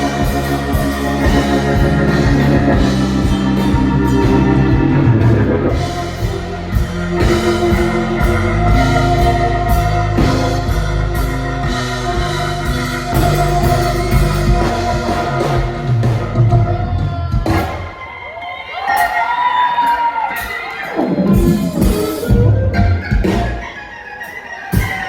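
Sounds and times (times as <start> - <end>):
bass and drums: 0.0 - 18.1, 20.4 - 25.0
electric guitar: 0.0 - 25.0.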